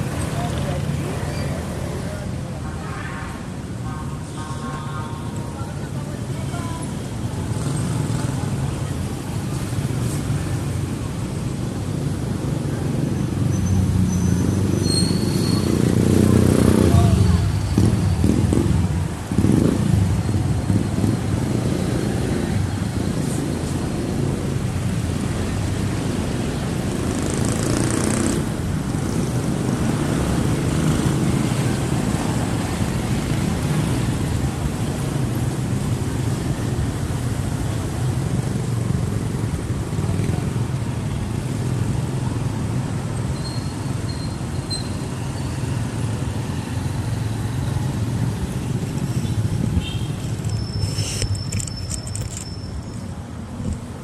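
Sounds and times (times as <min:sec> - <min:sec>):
wind and road rumble: 0:00.0 - 0:54.0.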